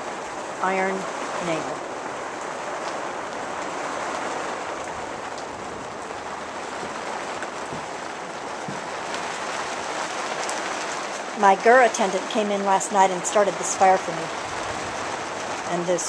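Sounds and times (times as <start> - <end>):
rain falling on tent roof: 0.0 - 16.0.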